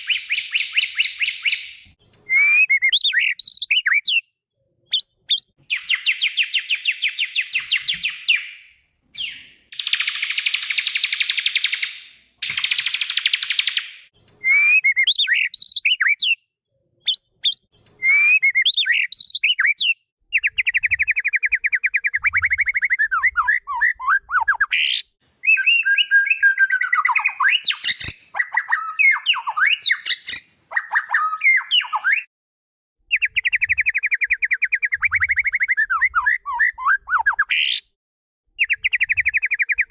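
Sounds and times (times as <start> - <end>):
bird song with trills and whistles: 0.0 - 32.3, 33.1 - 38.0, 38.6 - 39.9.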